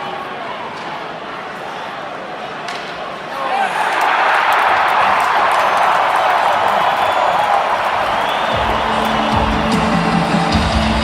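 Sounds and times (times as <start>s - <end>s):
arena crowd cheering: 0.0s - 11.0s.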